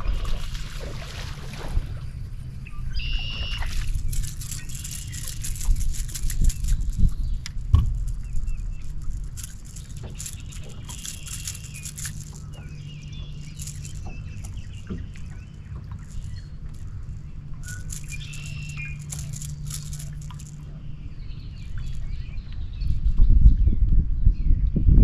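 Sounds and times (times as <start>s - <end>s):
steady low hum: 0.0s - 25.0s
birds chirping and calling: 2.6s - 23.1s.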